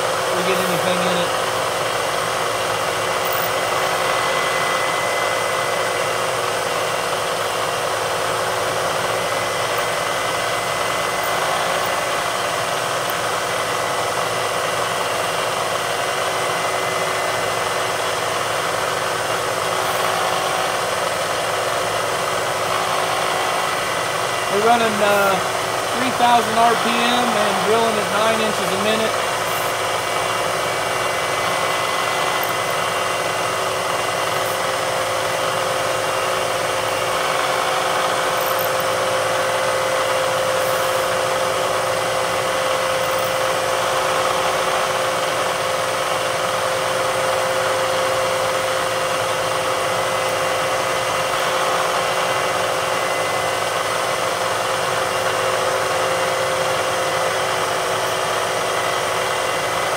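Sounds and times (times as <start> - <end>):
milling machine drilling metal: 0.0 - 59.9.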